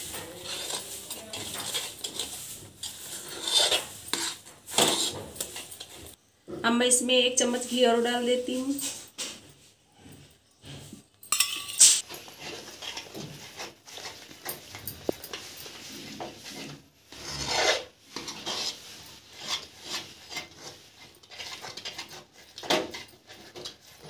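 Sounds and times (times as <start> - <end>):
metal spoon scraping a pan: 0.0 - 6.2, 10.8 - 24.0.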